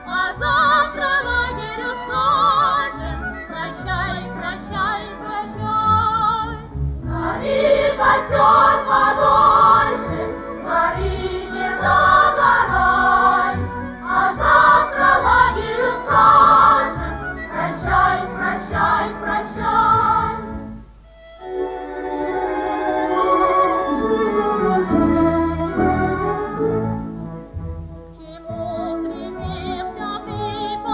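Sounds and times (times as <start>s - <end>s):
choir singing: 0.0s - 20.7s, 21.4s - 27.1s
musical accompaniment: 0.0s - 30.9s.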